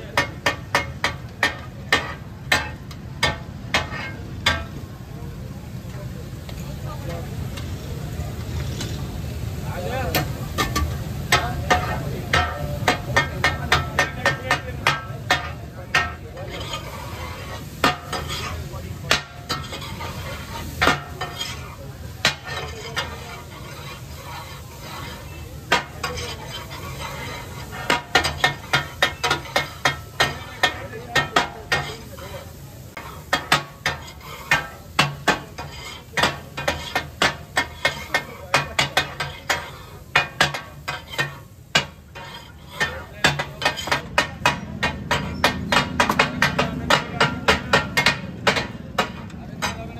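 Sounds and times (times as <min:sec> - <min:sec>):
metal spatulas clacking on griddle: 0:00.0 - 0:04.8, 0:10.0 - 0:49.9
steady sizzle: 0:00.0 - 0:49.9.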